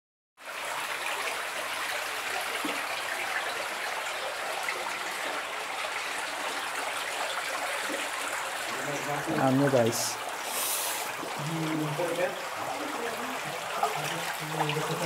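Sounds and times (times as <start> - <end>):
running water trickling: 0.4 - 15.0.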